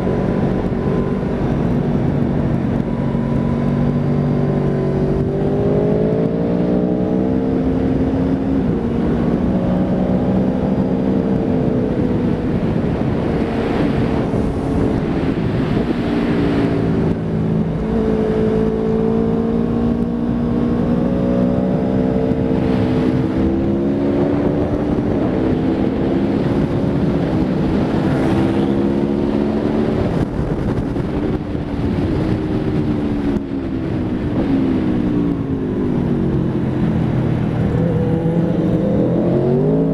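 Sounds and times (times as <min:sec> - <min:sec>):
motorcycle engine shifting gears: 0:00.0 - 0:39.9
wind noise on microphone: 0:00.0 - 0:39.9.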